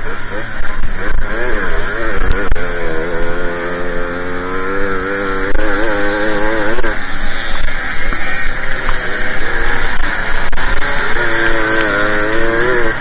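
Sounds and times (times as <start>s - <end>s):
two-stroke moped engine buzzing: 0.0s - 13.0s.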